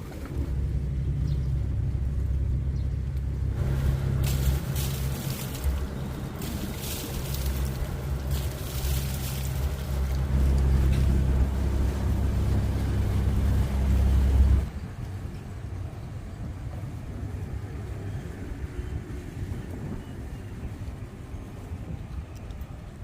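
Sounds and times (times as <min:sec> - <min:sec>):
boat engine deep hum: 0:00.0 - 0:23.0.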